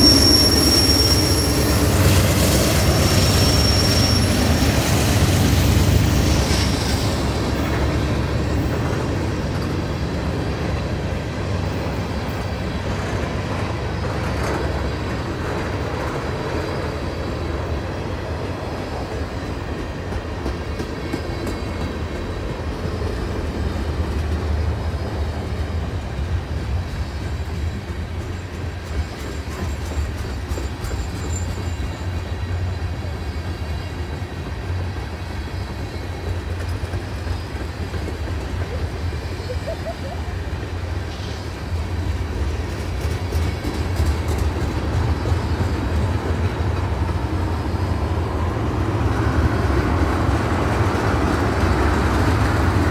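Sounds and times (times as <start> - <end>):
freight train wheels rumbling: 0.0 - 52.9.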